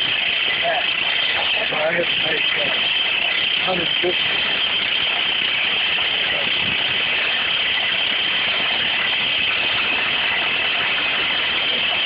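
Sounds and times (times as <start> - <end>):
machine noise with high hiss: 0.0 - 12.0.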